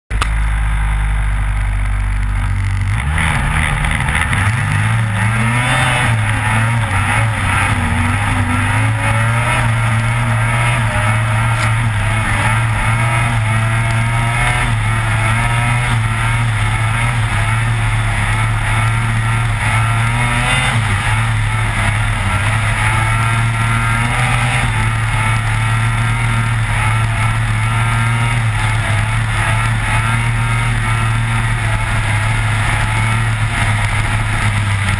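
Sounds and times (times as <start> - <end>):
snowmobile engine revving: 0.2 - 34.9.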